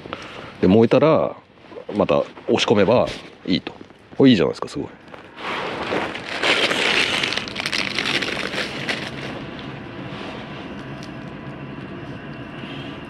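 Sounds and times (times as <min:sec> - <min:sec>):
twig fire crackling: 0:01.6 - 0:13.0.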